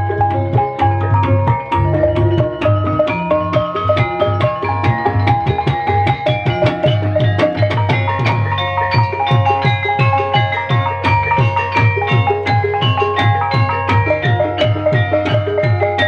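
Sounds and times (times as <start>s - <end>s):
hand drum strokes: 0.0s - 16.0s
ringing metallophone tones: 0.0s - 16.0s.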